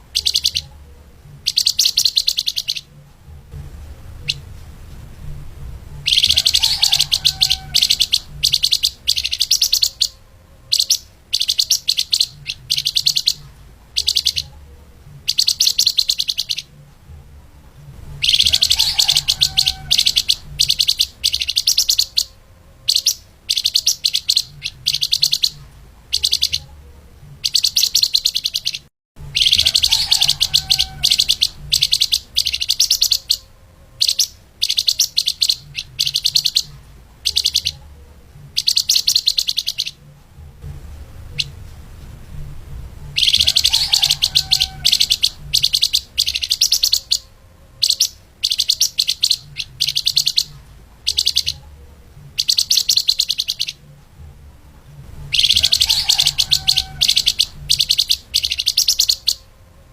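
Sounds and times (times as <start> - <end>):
songbird chattering: 0.0 - 3.0, 4.1 - 4.5, 6.0 - 16.8, 18.1 - 40.1, 41.3 - 41.6, 43.2 - 53.9, 55.3 - 59.5
low hum: 0.0 - 28.6, 29.2 - 48.4, 49.4 - 58.7.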